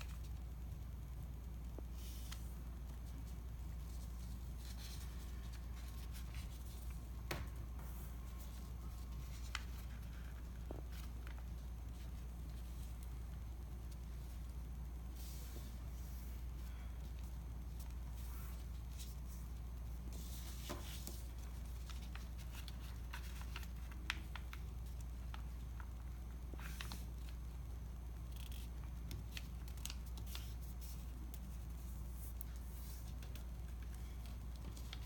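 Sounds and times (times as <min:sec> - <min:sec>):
steady low hum: 0:00.0 - 0:35.0
paper crackling and folding: 0:01.9 - 0:14.6, 0:15.2 - 0:35.0.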